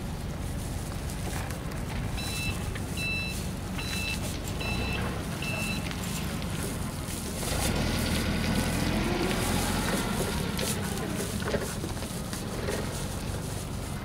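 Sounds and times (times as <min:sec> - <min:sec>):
plastic strands rustling: 0:00.4 - 0:14.0.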